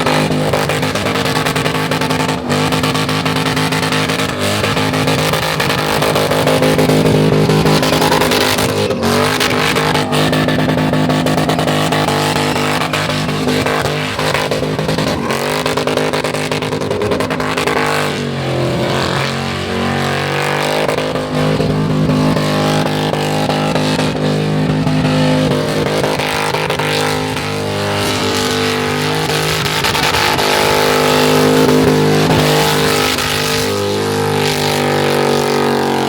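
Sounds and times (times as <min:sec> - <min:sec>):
car engine at high revs: 0:00.0 - 0:36.0.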